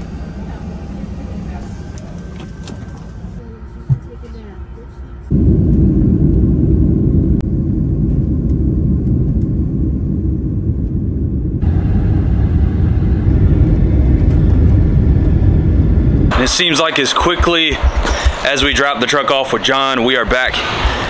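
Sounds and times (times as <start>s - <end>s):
jet engines and rushing air: 0.0s - 3.5s, 5.2s - 21.0s.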